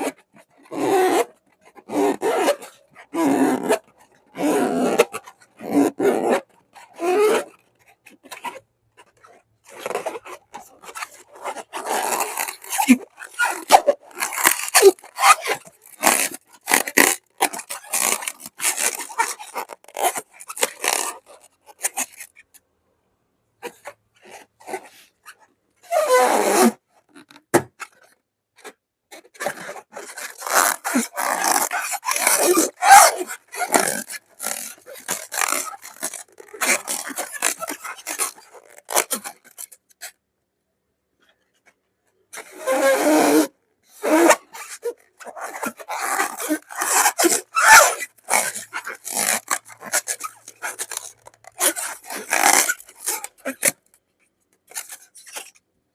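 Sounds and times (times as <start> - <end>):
slime balloons scraping and rubbing: 0.1 - 22.5, 25.8 - 40.2, 42.3 - 53.9.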